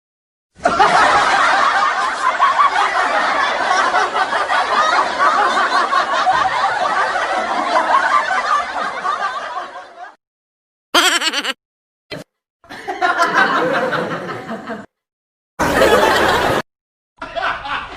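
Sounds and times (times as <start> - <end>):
people laughing: 0.6 - 10.2, 11.0 - 11.6, 12.7 - 14.9, 15.6 - 17.9.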